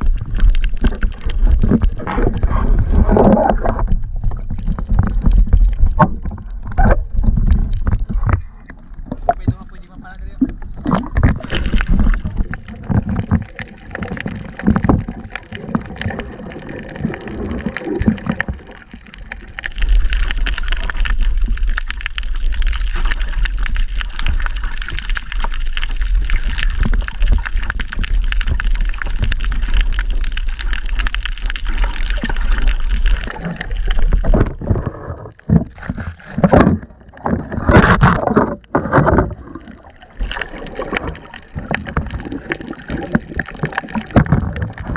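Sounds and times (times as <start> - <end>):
low underwater rumble: 0.0 - 44.9
underwater gurgling and sloshing: 0.0 - 44.9
water splashing: 0.0 - 44.9.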